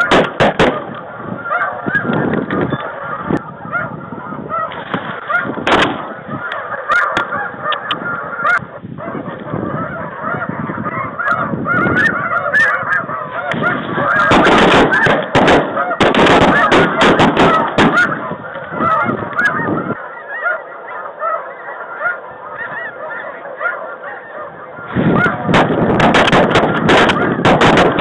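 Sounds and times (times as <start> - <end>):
geese honking: 0.0 - 28.0.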